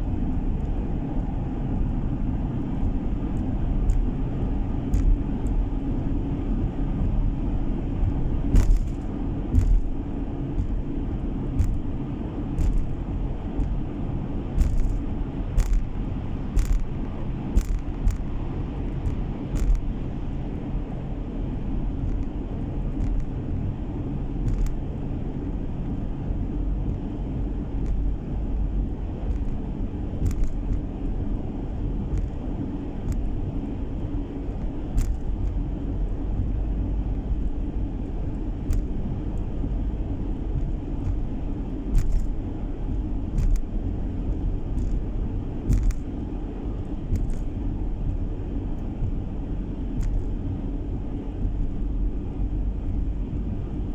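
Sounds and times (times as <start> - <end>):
car driving rumble: 0.0 - 53.9.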